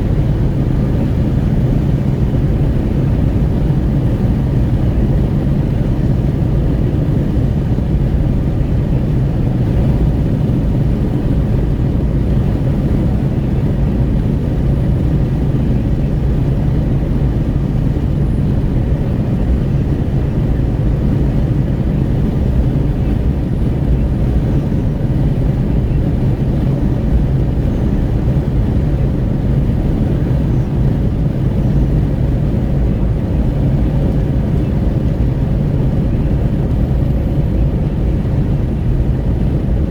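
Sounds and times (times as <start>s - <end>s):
wind rushing at car window: 0.0s - 39.9s.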